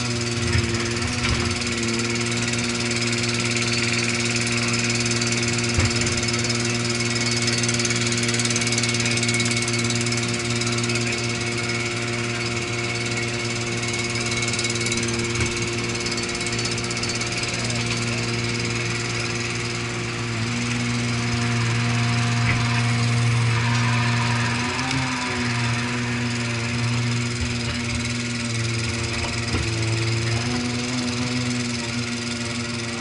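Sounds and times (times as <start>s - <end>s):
diesel engine running steadily: 0.0s - 33.0s.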